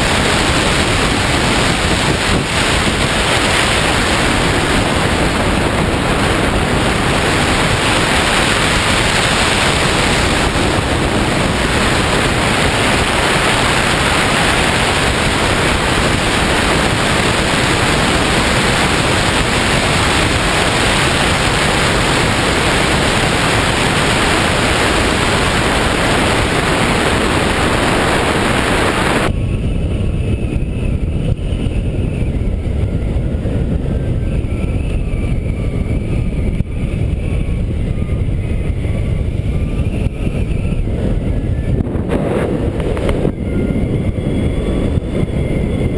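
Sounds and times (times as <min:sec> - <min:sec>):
dull uneven rumble: 0:00.0 - 0:45.9
wind rushing over microphone: 0:00.0 - 0:45.9.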